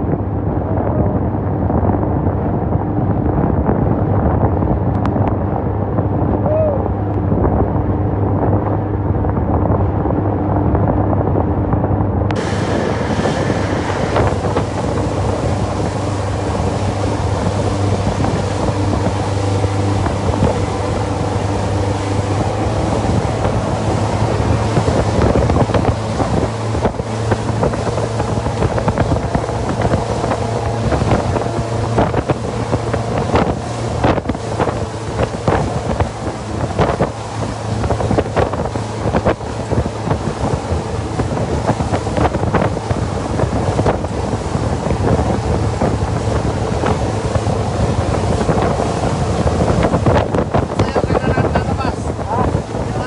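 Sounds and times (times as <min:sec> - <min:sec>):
boat engine droning: 0:00.0 - 0:53.0
wind buffeting microphone: 0:00.0 - 0:53.0.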